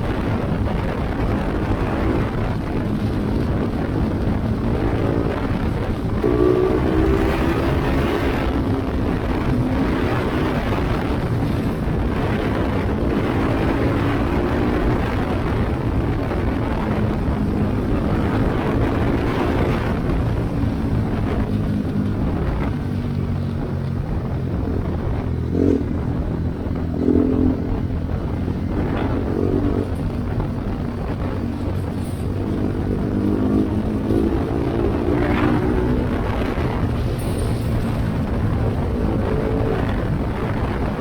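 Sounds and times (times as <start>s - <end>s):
motorcycle engine revving: 0.0s - 41.0s
wind noise on microphone: 0.0s - 41.0s.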